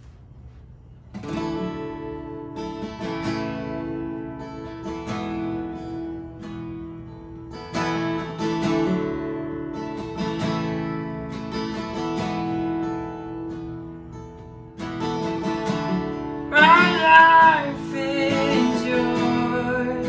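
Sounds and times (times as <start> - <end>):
acoustic guitar strumming chords: 1.2 - 20.0.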